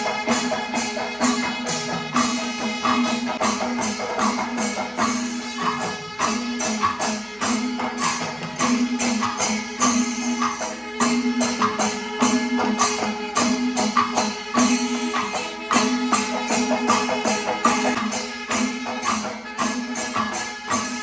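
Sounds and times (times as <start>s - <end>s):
drums: 0.0s - 21.0s
metallic percussion strikes: 0.0s - 21.0s.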